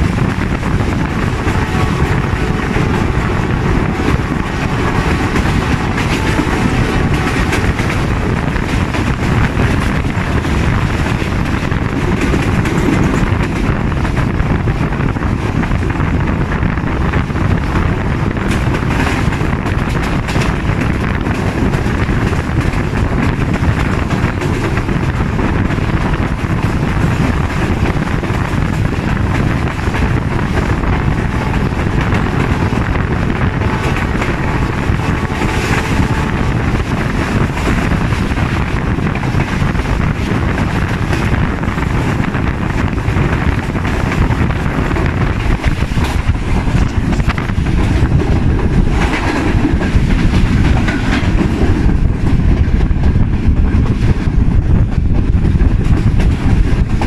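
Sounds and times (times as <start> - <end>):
train wheels rumbling on rails: 0.0 - 57.0
wind on microphone: 0.0 - 57.0.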